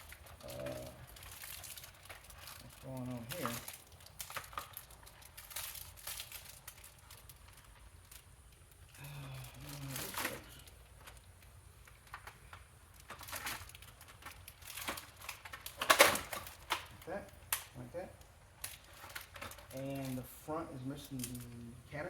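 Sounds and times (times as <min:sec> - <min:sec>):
plastic vacuum parts rustling: 0:00.0 - 0:21.6.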